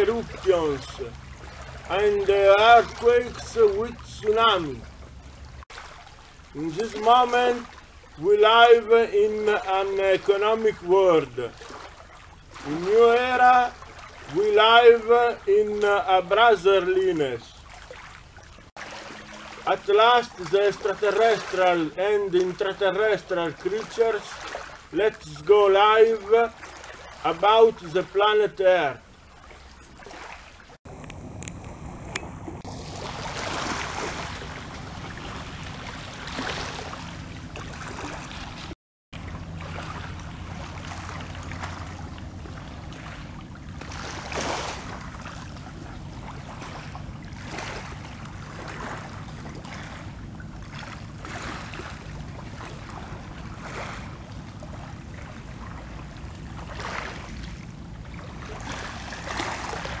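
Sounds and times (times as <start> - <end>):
lake waves lapping at shore: 0.0 - 60.0.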